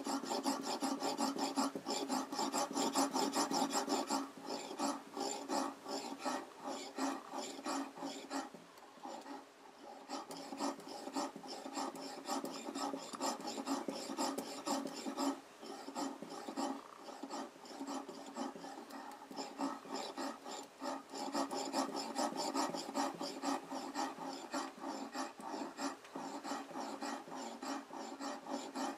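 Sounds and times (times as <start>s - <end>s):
whetstone rasping on knife edge: 0.0s - 8.5s, 9.1s - 28.9s.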